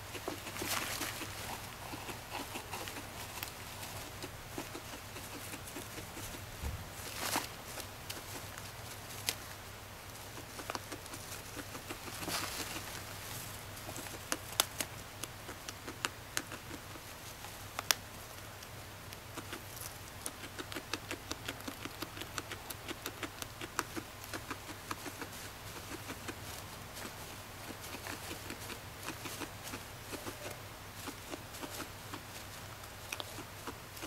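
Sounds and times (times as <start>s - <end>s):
guinea pig chewing hay: 0.0s - 34.0s.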